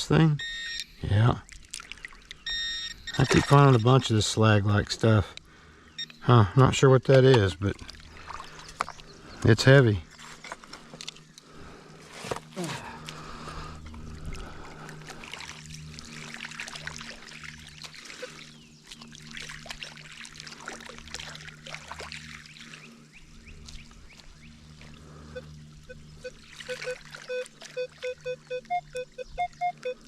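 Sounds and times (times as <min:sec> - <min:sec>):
steady low hum: 0:00.0 - 0:30.0
water trickling and splashing: 0:00.8 - 0:05.8, 0:06.6 - 0:30.0.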